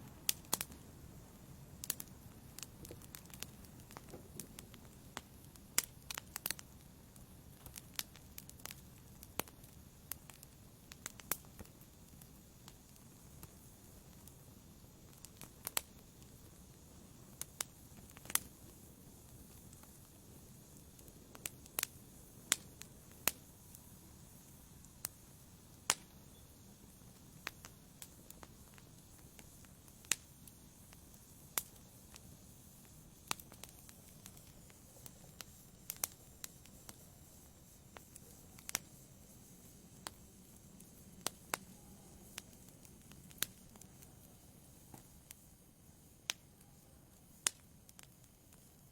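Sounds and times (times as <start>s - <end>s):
low steady hiss: 0.0s - 48.9s
wood fire crackling: 0.0s - 48.9s.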